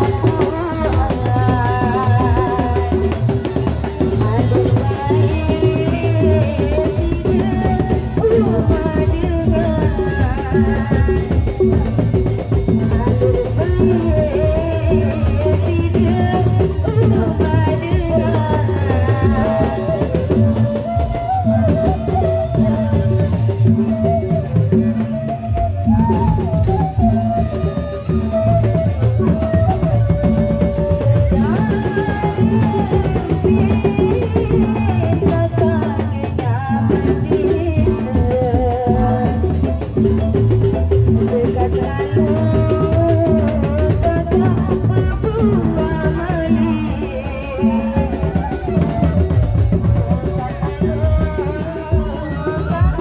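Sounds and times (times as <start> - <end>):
amplified procession music: 0.0 - 53.0
bamboo flutes: 0.0 - 53.0
drums: 0.0 - 53.0
woman singing into a microphone: 0.0 - 53.0.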